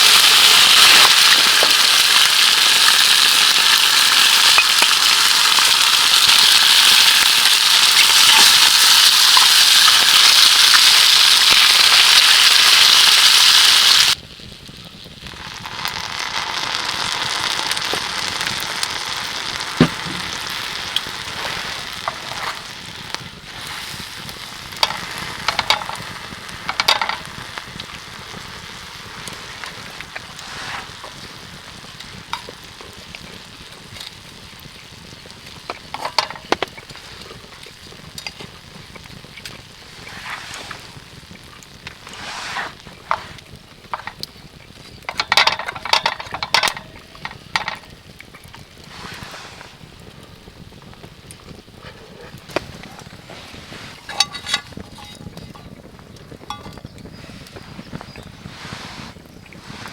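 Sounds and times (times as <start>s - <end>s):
food sizzling in a pan: 0.0s - 59.9s
pops and crackles: 0.0s - 59.9s.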